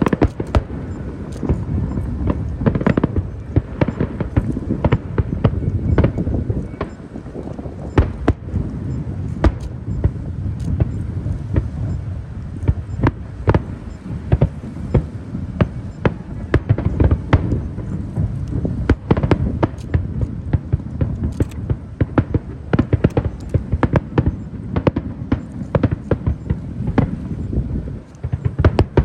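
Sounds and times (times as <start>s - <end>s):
firework bangs: 0.0s - 29.0s.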